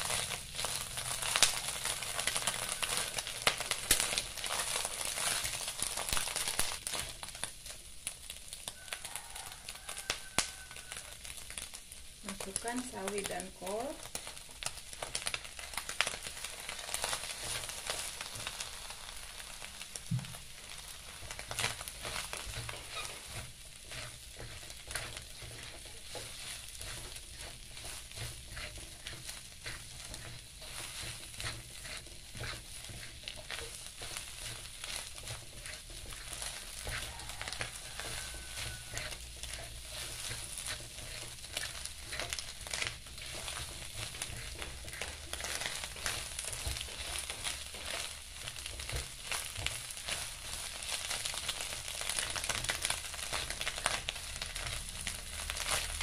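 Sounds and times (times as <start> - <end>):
greens sizzling in a wok: 0.0 - 56.0
spatula scraping a pan: 0.0 - 56.0.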